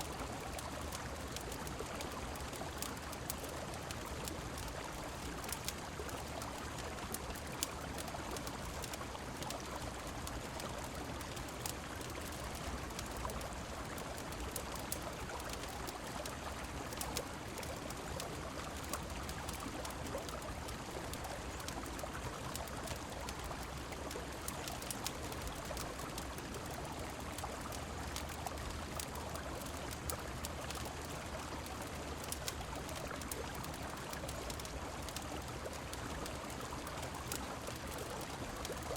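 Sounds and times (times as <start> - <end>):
rain falling: 0.0 - 38.9
small sharp crackles: 0.0 - 38.9.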